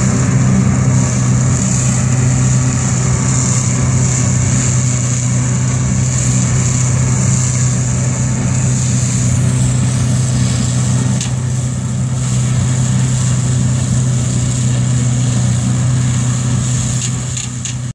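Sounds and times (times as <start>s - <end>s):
engine running with whine: 0.0s - 17.9s.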